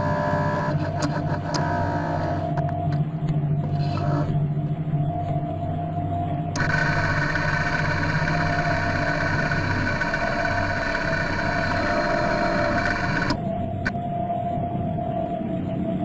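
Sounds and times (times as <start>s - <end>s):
higher whirring: 0.0s - 15.8s
electric motor whirr and hum: 0.0s - 16.0s.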